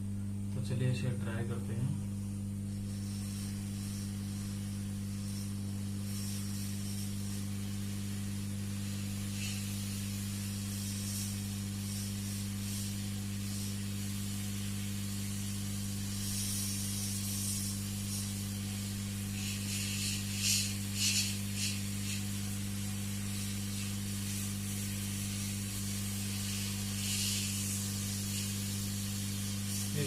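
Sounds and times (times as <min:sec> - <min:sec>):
steady low hum: 0:00.0 - 0:30.0
hot air gun hissing: 0:02.6 - 0:30.0.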